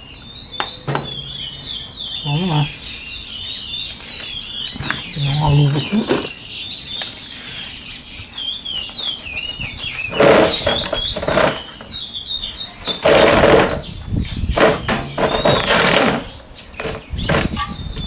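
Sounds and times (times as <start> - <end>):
birds chirping and warbling: 0.0 - 18.0.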